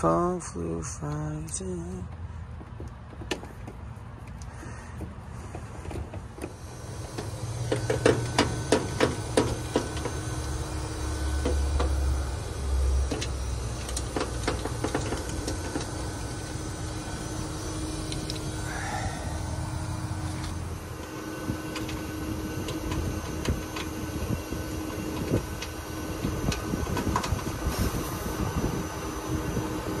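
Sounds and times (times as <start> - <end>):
heat pump unit humming: 3.4 - 30.0.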